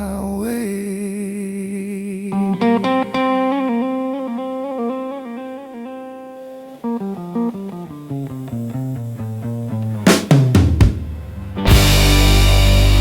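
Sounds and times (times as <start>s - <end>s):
slow blues guitar: 2.2s - 13.0s.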